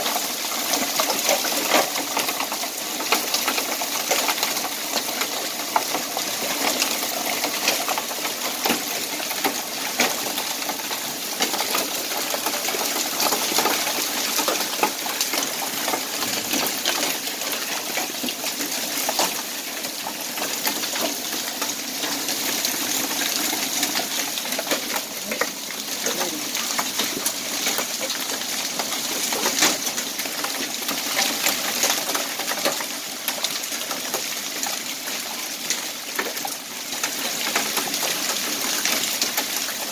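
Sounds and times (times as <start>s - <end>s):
hailstones pelting concrete: 0.0s - 39.9s.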